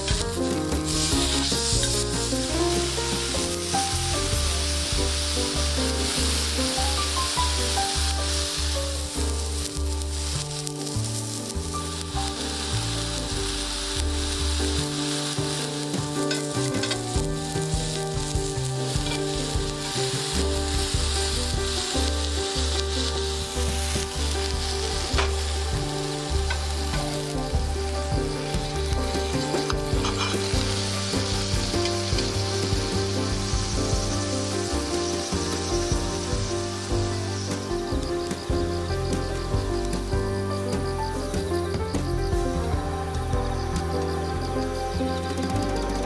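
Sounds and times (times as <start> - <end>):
meat sizzling in a skillet: 0.0 - 46.0.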